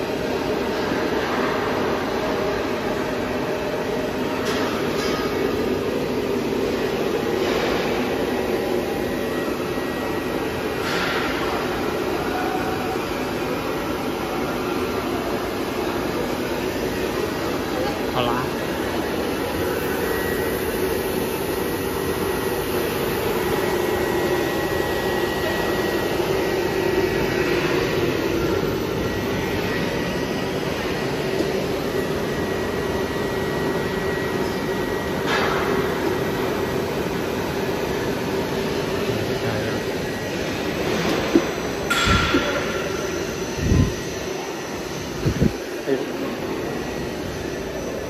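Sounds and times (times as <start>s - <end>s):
machine drone with high whine: 0.0s - 48.0s.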